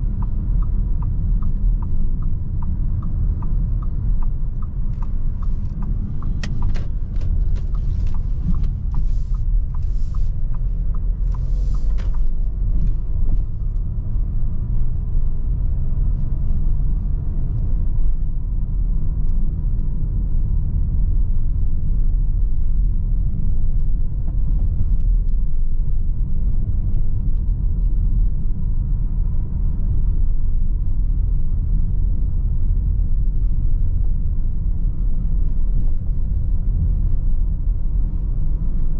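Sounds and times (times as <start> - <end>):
diesel car engine and tyres rumbling: 0.0 - 38.9.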